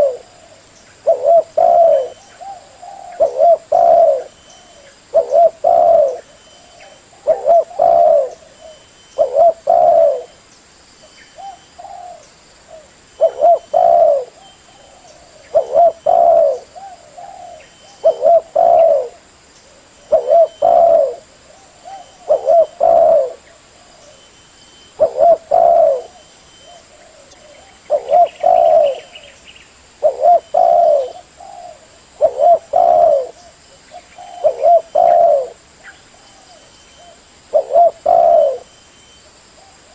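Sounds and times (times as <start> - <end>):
dove cooing: 0.0 - 10.4, 11.4 - 29.4, 30.0 - 39.9.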